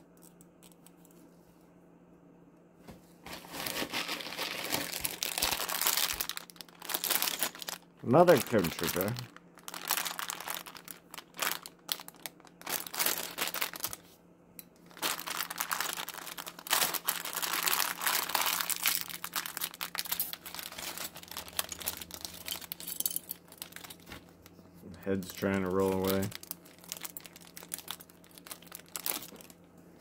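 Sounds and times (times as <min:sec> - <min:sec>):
plastic bag crinkling: 0:03.3 - 0:14.2, 0:14.8 - 0:29.7.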